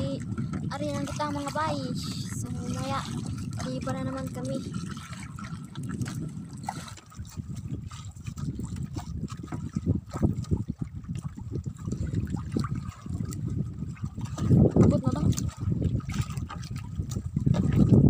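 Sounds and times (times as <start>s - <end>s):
water splashing around boat: 0.0s - 18.0s.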